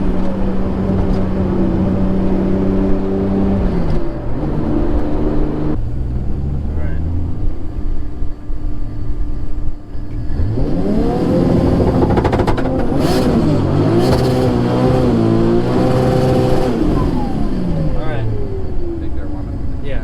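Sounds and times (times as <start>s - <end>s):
car engine revving hard: 0.0s - 7.5s, 9.9s - 19.3s.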